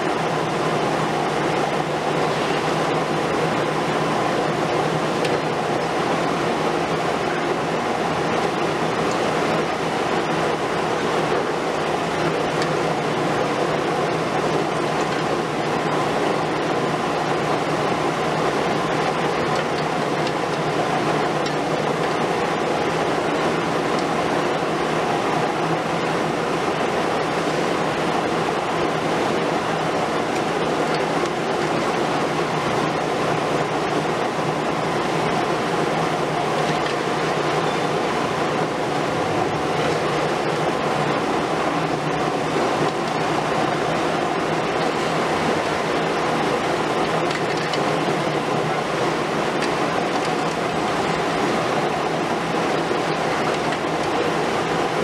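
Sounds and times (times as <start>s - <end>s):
excavator diesel engines and hydraulics: 0.0s - 55.0s.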